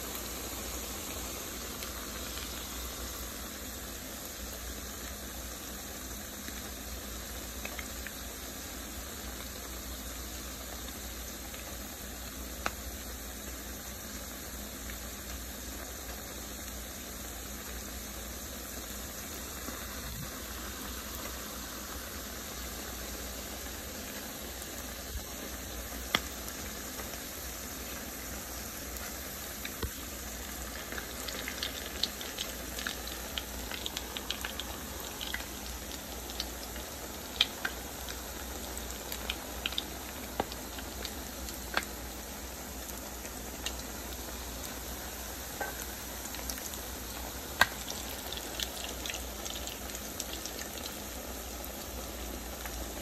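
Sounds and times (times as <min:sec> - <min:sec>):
patties sizzling in hot oil: 0:00.0 - 0:53.0
sharp ticks of frying oil: 0:00.0 - 0:53.0.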